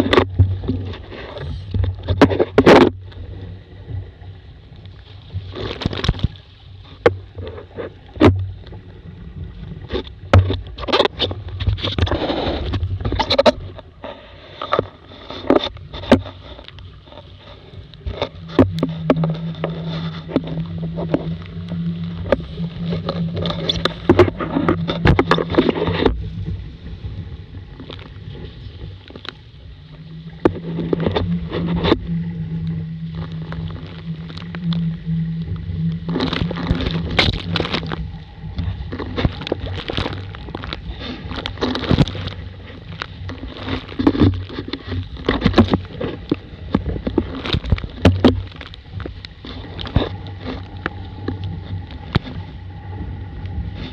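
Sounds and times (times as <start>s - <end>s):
low steady hum: 0.0s - 53.9s
water splashing against boat hull: 0.0s - 53.9s.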